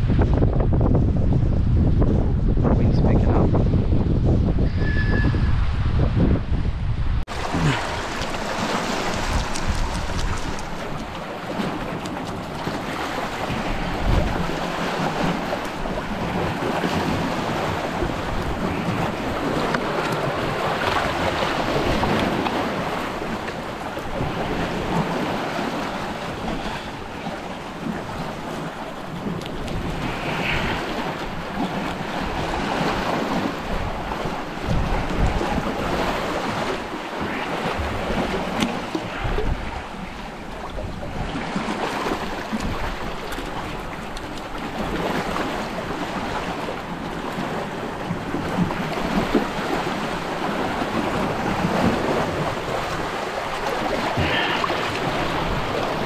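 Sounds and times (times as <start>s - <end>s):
wind on microphone: 0.0s - 56.0s
water lapping against rocks: 7.3s - 56.0s.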